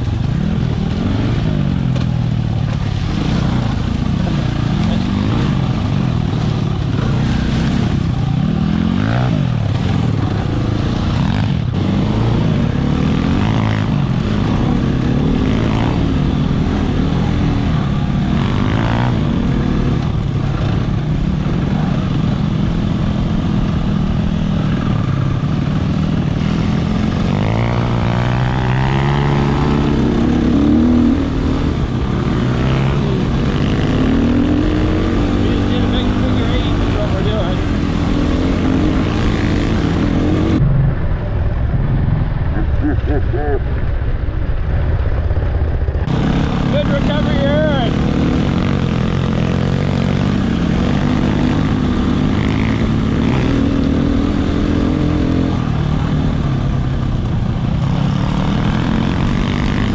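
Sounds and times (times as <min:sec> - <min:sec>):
dirt bike engine revving: 0:00.0 - 0:40.7, 0:45.9 - 0:59.9.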